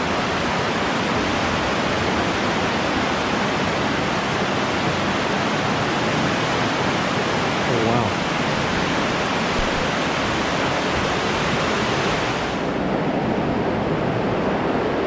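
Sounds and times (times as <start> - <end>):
river roaring through gorge: 0.0 - 15.0.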